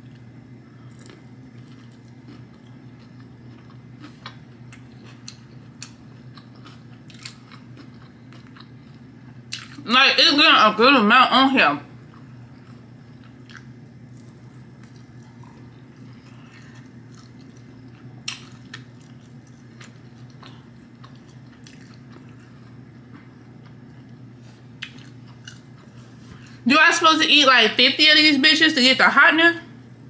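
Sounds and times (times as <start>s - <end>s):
soft crunching while chewing: 0.0s - 9.8s, 12.0s - 26.6s.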